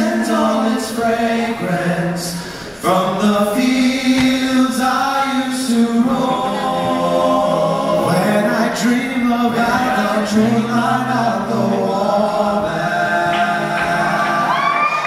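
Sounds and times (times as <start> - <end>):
male group singing in harmony: 0.0 - 15.0.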